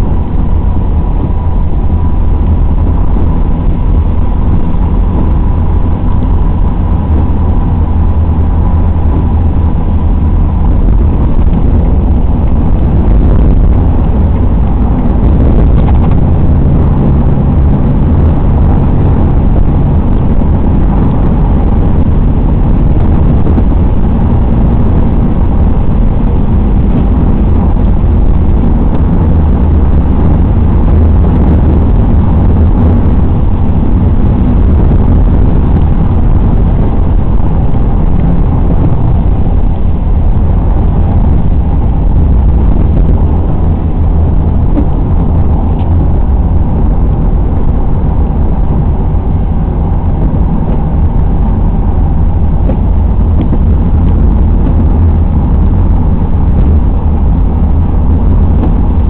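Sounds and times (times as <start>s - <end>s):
road and engine rumble in cab: 0.0s - 59.0s.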